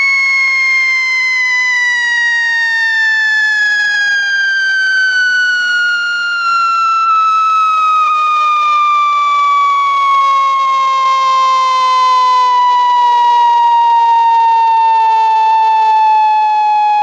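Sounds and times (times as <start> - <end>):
firecracker shrill whistle: 0.0 - 17.0.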